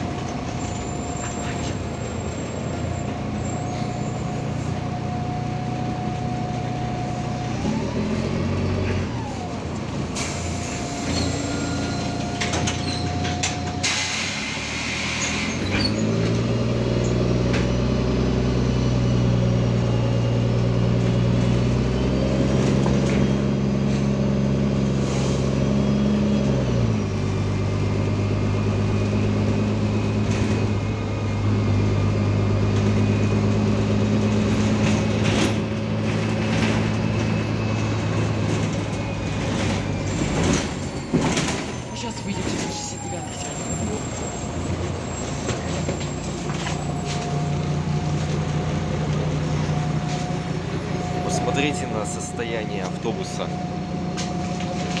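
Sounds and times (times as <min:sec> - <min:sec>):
bus diesel engine: 0:00.0 - 0:55.0
road noise: 0:00.0 - 0:55.0.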